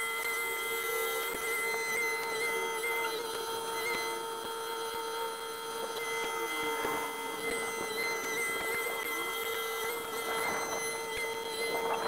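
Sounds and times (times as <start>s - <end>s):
high machinery whine: 0.0s - 12.0s.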